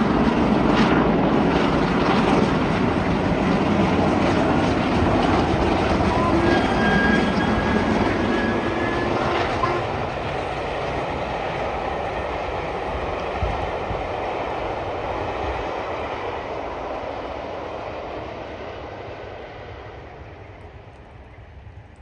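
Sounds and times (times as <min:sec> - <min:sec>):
steam train running: 0:00.0 - 0:22.0.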